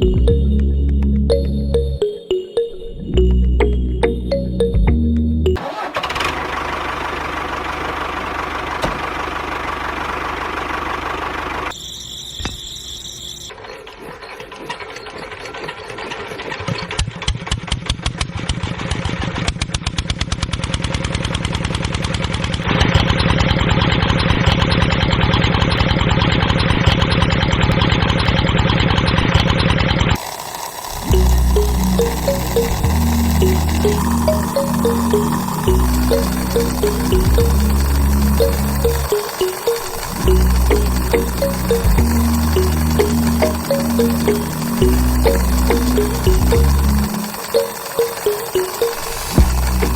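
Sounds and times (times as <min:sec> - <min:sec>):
tractor engine chugging: 0:05.6 - 0:11.7, 0:13.8 - 0:49.9.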